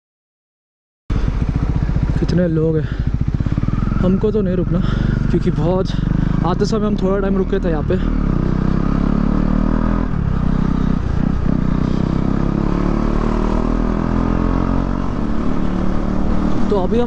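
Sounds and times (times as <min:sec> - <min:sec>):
motorcycle engine running: 0:01.1 - 0:17.0.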